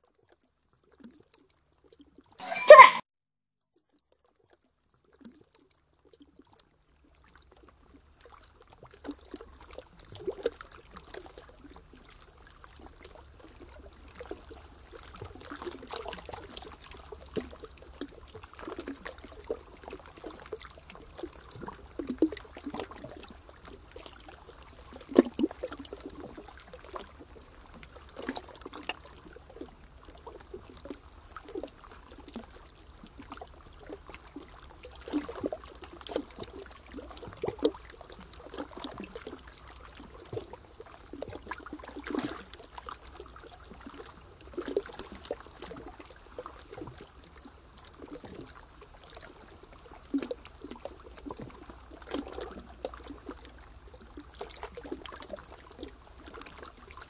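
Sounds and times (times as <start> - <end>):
water lapping and trickling: 0.0 - 2.5, 3.7 - 57.0
small water splashes: 4.0 - 57.0.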